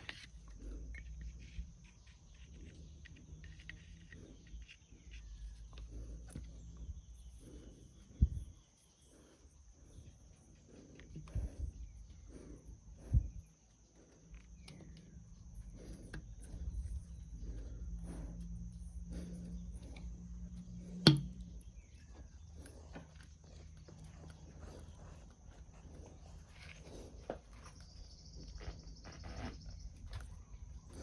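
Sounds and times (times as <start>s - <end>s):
insect trill: 0.0s - 31.0s
soft repeated strokes: 0.0s - 31.0s.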